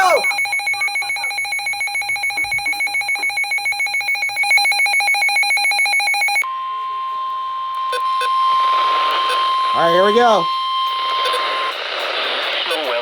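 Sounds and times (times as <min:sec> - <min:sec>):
electronic alert alarm trilling: 0:00.0 - 0:11.8
steady high warning tone: 0:00.0 - 0:13.0.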